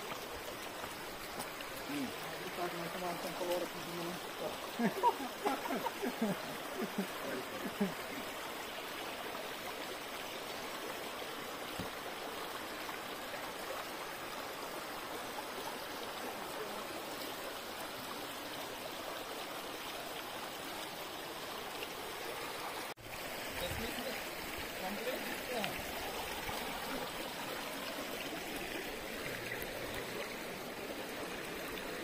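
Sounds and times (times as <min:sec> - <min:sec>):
stream running over rocks: 0:00.0 - 0:32.0.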